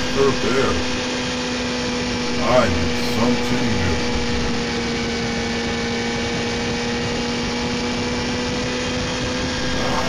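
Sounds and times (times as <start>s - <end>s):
car engine drone: 0.0s - 10.0s
road noise inside car: 0.0s - 10.0s.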